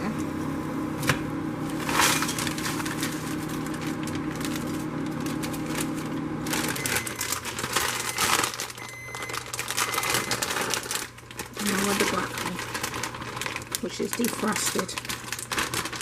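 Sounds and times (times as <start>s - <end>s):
noodles crackling in boiling water: 0.0s - 16.0s
steady hum: 0.0s - 16.0s.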